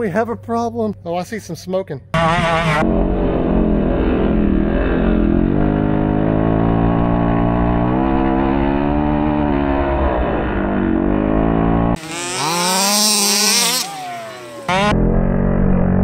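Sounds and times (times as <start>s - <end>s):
small two-stroke engine revving: 2.2s - 15.9s.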